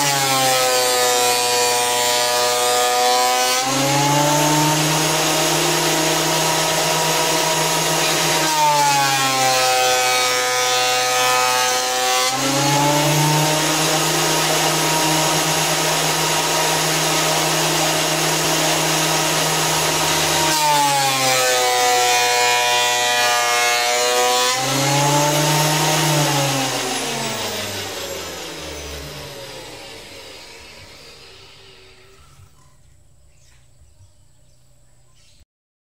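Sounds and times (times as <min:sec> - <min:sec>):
planer shaving wood: 0:00.0 - 0:32.5
electric hand planer whine: 0:00.0 - 0:32.8.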